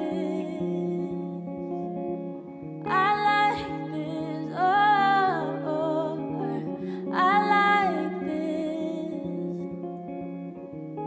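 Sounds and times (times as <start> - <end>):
woman singing: 0.0 - 10.0
sustained guitar notes: 0.0 - 11.0.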